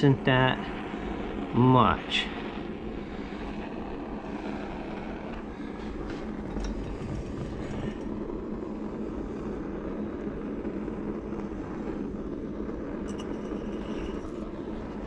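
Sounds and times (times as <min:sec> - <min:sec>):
butane torch flame burning: 0:00.0 - 0:15.0.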